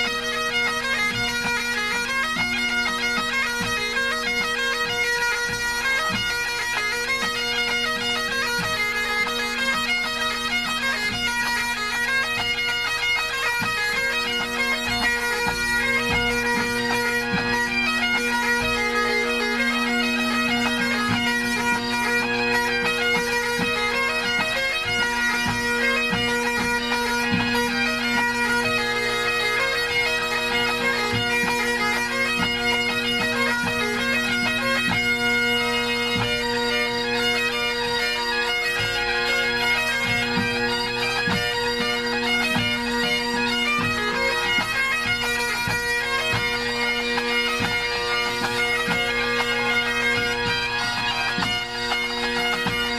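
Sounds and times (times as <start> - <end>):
bagpipe chanters playing: 0.0 - 52.9
bagpipe drones: 0.0 - 52.9.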